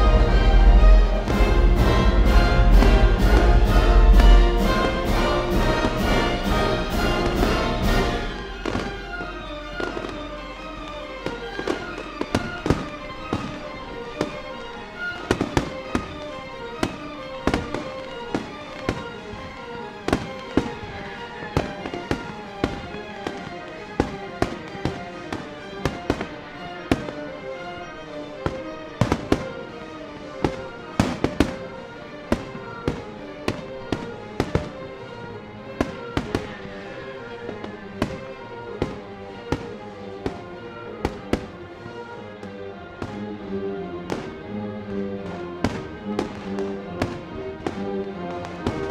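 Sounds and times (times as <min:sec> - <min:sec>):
background music: 0:00.0 - 0:48.9
fireworks bangs and crackles: 0:00.0 - 0:48.9.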